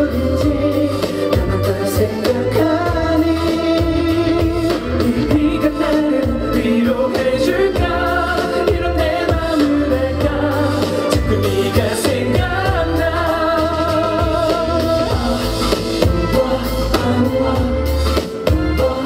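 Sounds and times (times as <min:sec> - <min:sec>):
pop song over sound system: 0:00.0 - 0:19.0.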